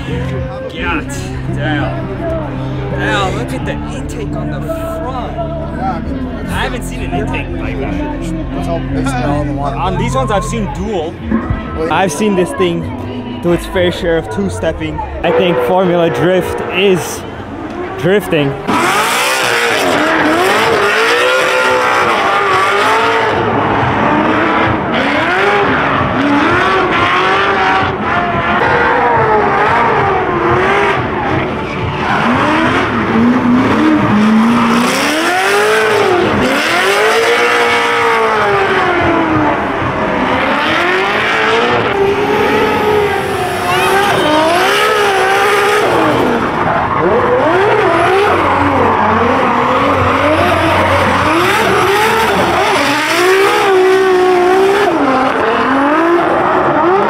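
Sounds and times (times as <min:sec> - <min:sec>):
high-revving engines: 0:00.0 - 0:57.0
tires squealing: 0:00.0 - 0:57.0.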